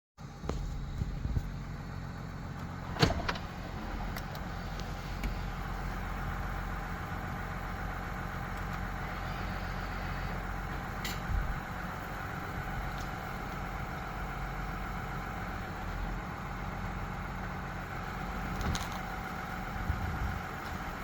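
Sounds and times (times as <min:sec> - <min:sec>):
diesel engine droning: 0:00.2 - 0:21.0.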